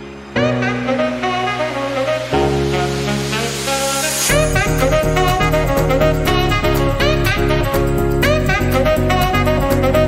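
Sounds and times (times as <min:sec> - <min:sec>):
jazzy saxophone and brass music: 0:00.0 - 0:10.0.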